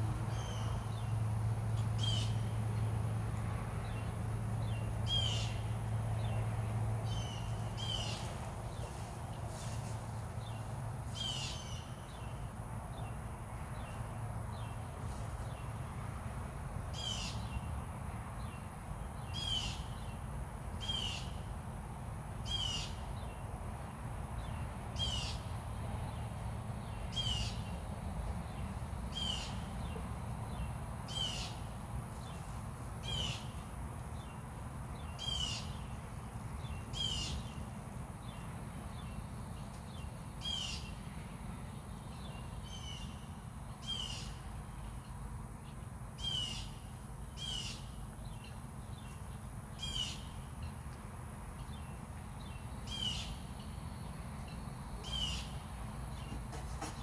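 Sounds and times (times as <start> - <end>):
low outdoor rumble: 0.0 - 57.0.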